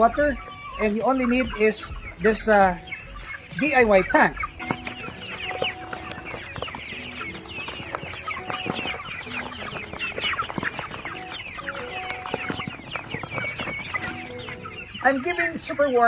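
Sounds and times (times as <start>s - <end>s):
young chickens clucking and cheeping: 0.0s - 16.0s.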